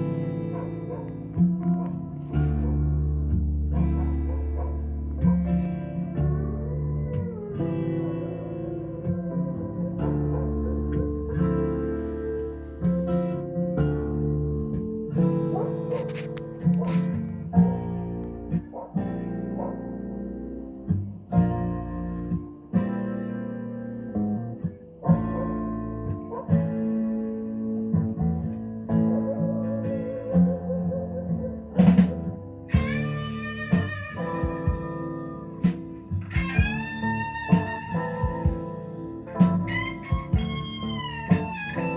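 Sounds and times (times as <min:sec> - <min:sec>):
blues guitar music: 0:00.0 - 0:41.9.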